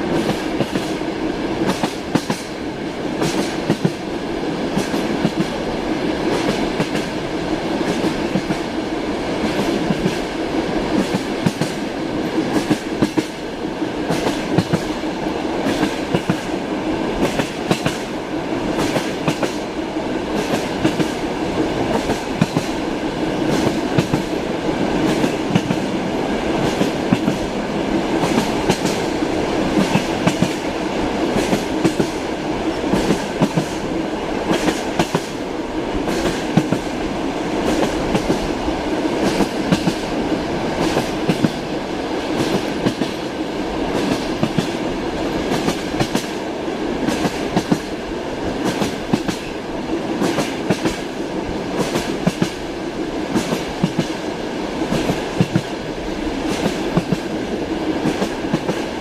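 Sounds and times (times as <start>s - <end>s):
train rumble: 0.0s - 59.0s
train wheels clicking over rail joints: 1.6s - 5.6s, 6.2s - 7.1s, 7.7s - 8.7s, 9.4s - 16.6s, 17.2s - 32.2s, 32.8s - 35.4s, 36.0s - 36.9s, 37.6s - 38.5s, 39.1s - 43.3s, 43.9s - 59.0s.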